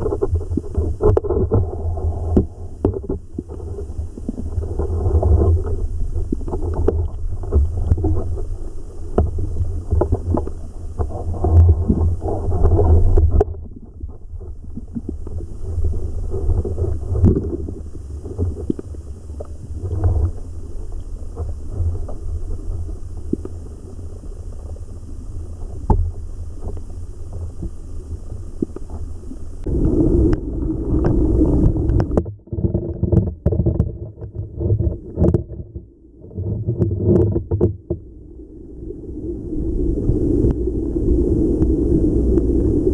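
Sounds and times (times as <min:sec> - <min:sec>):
underwater stream rumble: 0:00.0 - 0:42.9.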